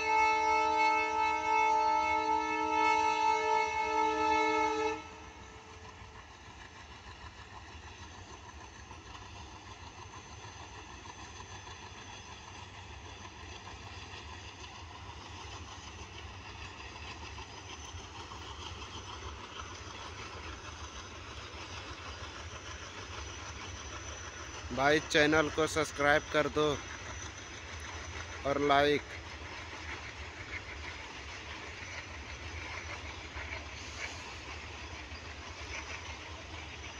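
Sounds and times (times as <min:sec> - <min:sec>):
distant freight train rumble: 0:00.0 - 0:36.9.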